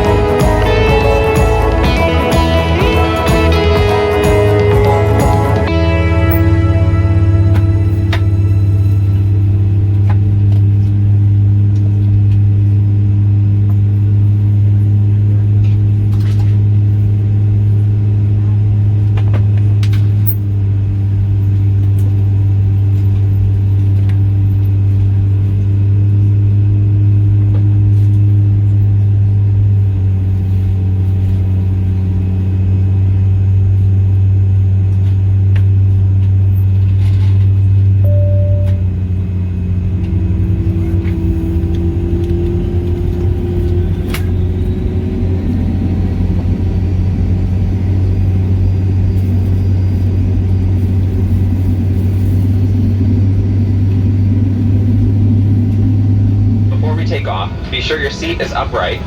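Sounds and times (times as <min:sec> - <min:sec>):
jet engine low drone: 0:00.0 - 0:59.0
rising engine whine: 0:00.0 - 0:59.0.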